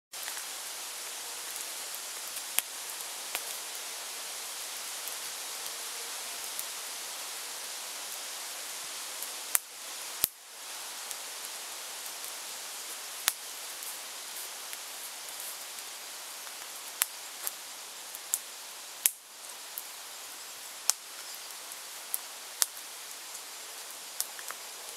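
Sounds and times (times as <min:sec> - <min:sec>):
steady outdoor hiss: 0:00.1 - 0:24.9.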